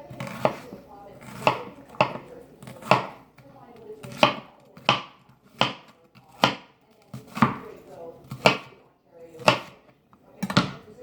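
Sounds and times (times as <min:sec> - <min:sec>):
knife chopping on cutting board: 0:00.0 - 0:08.8, 0:09.4 - 0:10.9.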